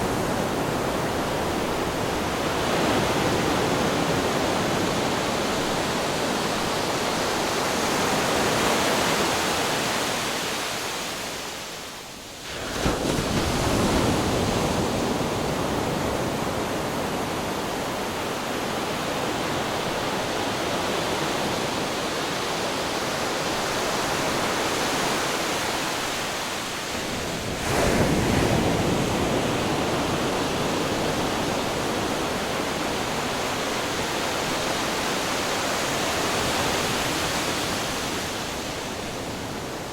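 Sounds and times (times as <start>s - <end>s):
rush of surf: 0.0s - 39.9s.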